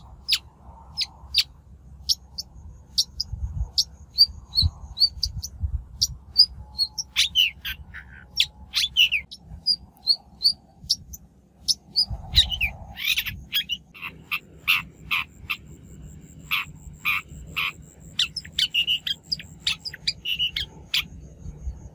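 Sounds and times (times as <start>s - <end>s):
bird chirping and rasping: 0.0s - 21.9s
faint high-pitched hum: 0.0s - 21.9s.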